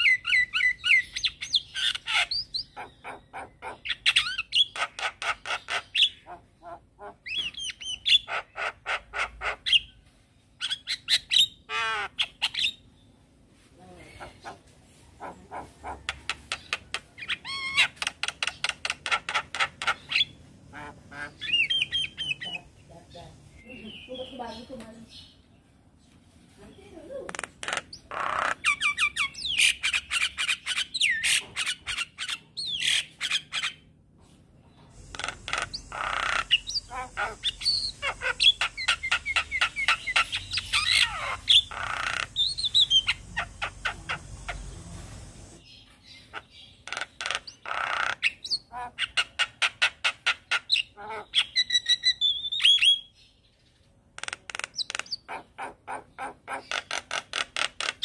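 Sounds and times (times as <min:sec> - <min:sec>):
bird singing with chattering notes: 0:00.0 - 0:06.4, 0:07.2 - 0:10.0, 0:15.2 - 0:25.6, 0:26.7 - 0:33.9, 0:34.7 - 0:44.8, 0:45.5 - 0:58.0.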